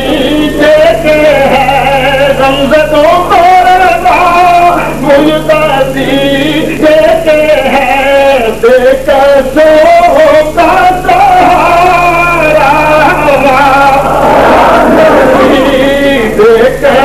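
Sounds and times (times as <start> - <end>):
low electrical hum: 0.0 - 17.0
man singing into microphone: 0.0 - 17.0.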